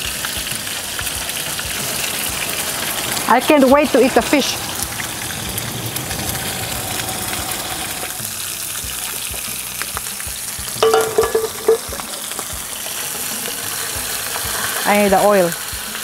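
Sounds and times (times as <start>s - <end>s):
fish sizzling in a frying pan: 0.0s - 16.0s.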